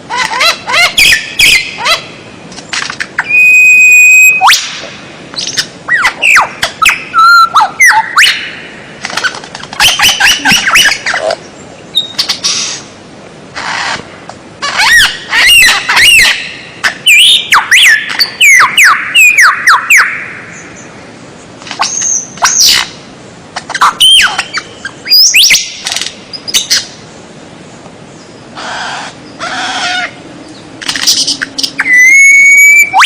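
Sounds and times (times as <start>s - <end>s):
songbird singing: 0.0s - 13.0s, 13.6s - 33.0s.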